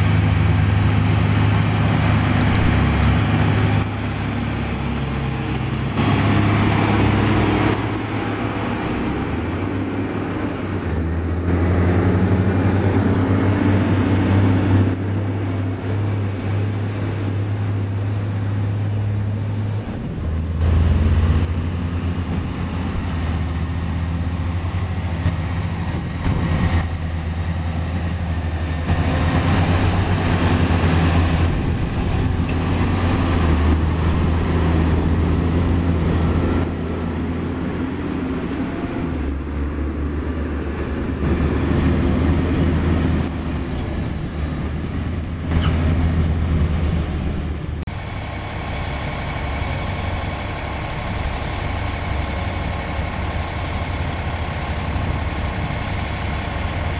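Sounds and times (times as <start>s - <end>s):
diesel engine under load: 0.0s - 56.9s.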